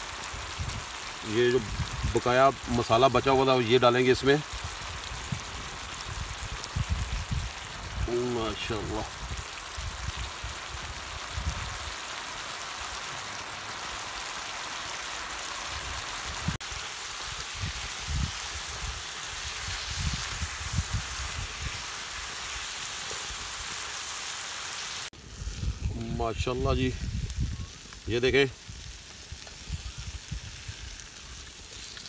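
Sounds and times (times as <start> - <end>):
gravy sizzling in a frying pan: 0.0 - 32.0.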